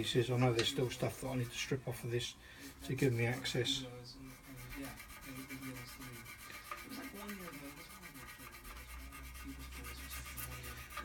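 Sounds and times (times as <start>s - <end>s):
abrasive pad scrubbing metal: 0.0s - 11.0s.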